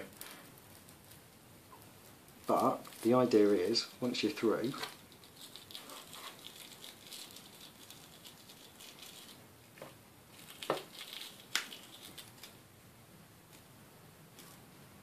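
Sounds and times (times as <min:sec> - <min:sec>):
cable handling rustle: 0:00.0 - 0:12.6.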